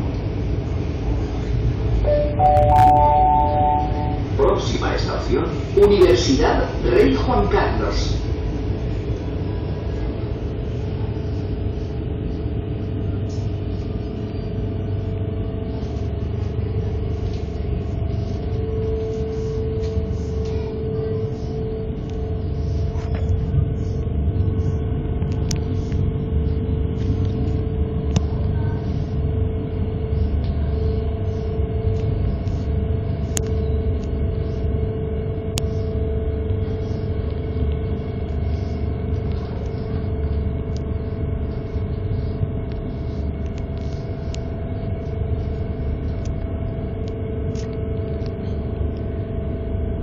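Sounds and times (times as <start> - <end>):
train rumbling in tunnel: 0.0 - 50.0.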